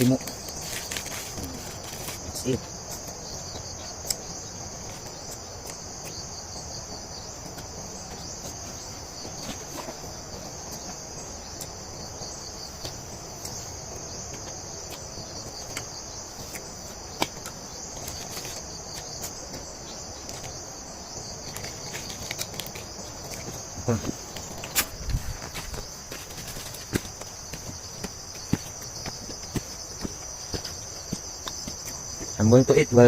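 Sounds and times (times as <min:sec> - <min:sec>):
insects shrilling: 0:00.0 - 0:33.0.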